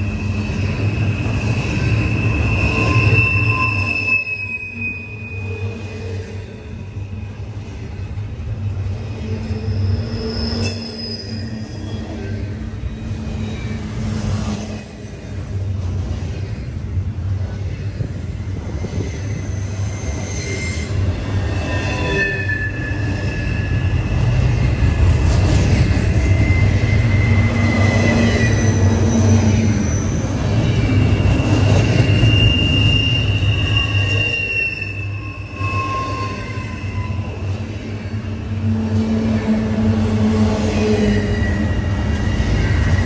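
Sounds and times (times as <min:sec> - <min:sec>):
high wheel squeals: 0:00.0 - 0:07.3, 0:09.1 - 0:16.5, 0:17.8 - 0:24.7, 0:25.5 - 0:38.5, 0:40.6 - 0:43.0
freight train cars rumbling: 0:00.0 - 0:43.0.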